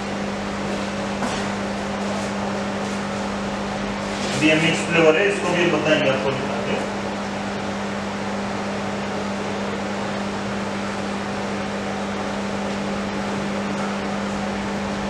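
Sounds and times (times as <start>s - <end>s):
ice cream machine humming: 0.0s - 15.0s.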